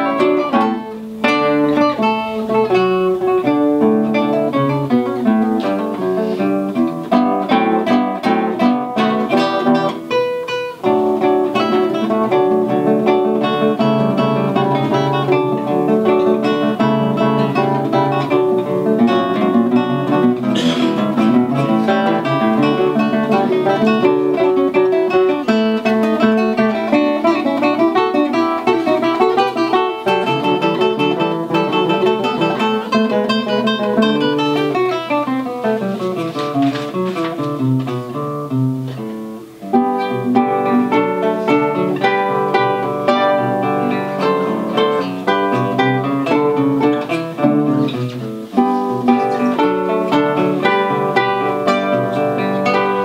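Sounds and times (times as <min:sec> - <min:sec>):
guitar duet plucked notes: 0:00.0 - 0:53.0.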